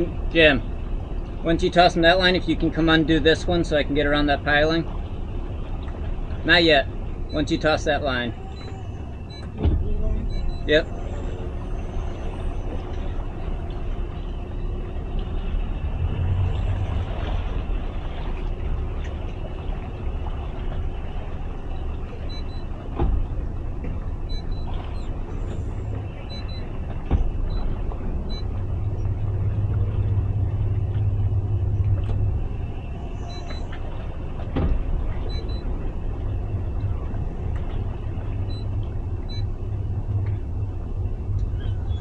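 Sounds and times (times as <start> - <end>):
outboard motors rumbling: 0.0 - 42.0.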